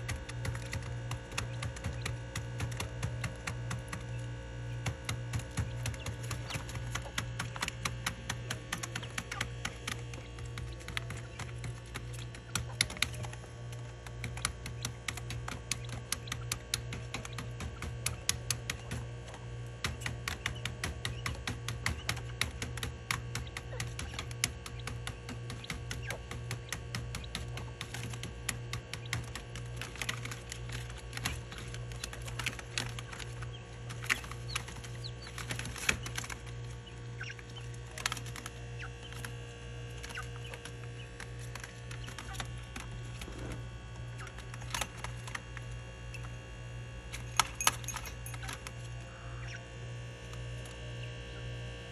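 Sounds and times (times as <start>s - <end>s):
quail clicking: 0.0s - 46.3s, 47.1s - 49.6s
low hum: 0.0s - 51.9s.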